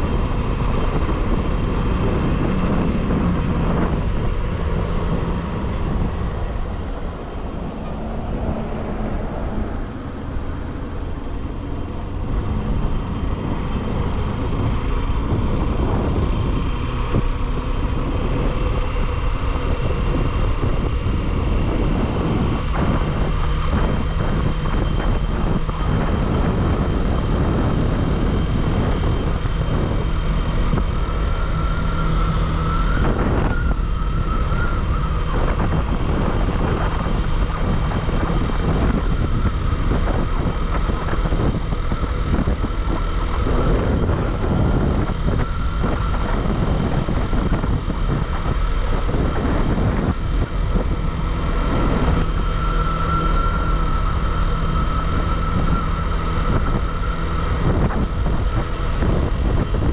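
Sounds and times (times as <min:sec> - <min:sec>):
motorcycle engine and road rumble: 0:00.0 - 0:59.9
thin wavering whine: 0:00.0 - 0:59.9
wind rush on microphone: 0:00.0 - 0:59.9.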